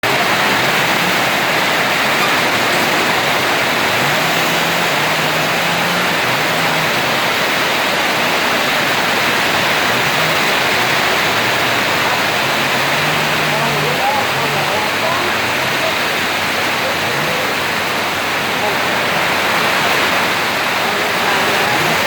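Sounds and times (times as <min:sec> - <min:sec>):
heavy rain in strong wind: 0:00.0 - 0:22.0.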